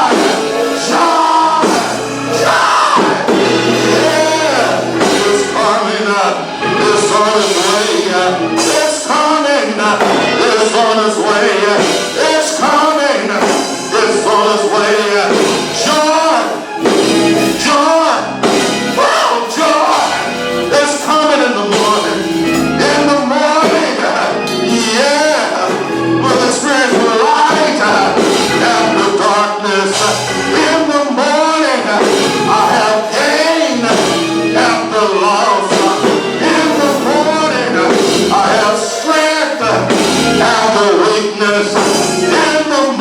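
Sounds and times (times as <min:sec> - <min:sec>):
group singing gospel song: 0:00.0 - 0:43.0
instrumental accompaniment: 0:00.0 - 0:43.0.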